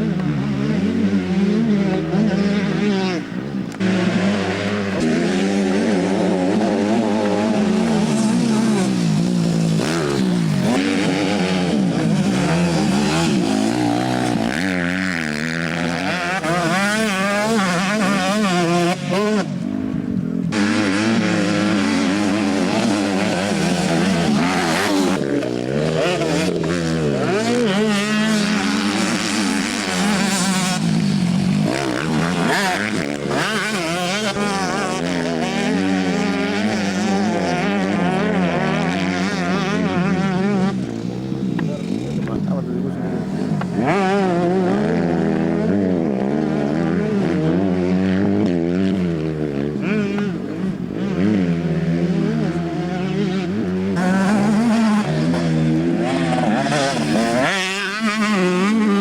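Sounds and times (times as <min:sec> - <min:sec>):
motocross engines revving: 0:00.0 - 0:59.0.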